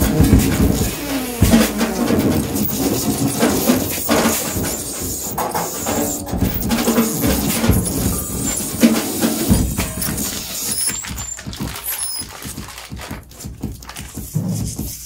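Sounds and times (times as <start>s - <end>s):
squeaking rubbed tones: 0.0s - 12.9s
clattering percussion knocks: 0.0s - 13.8s.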